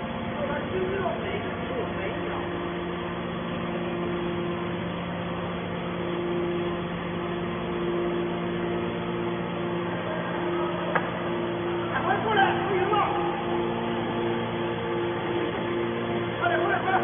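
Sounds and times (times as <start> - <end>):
baler machine hum: 0.0 - 17.0
high machine tone: 0.0 - 17.0.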